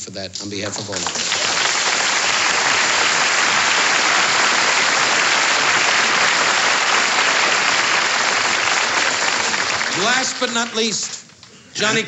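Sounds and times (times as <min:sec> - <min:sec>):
large audience applauding: 0:00.3 - 0:12.0.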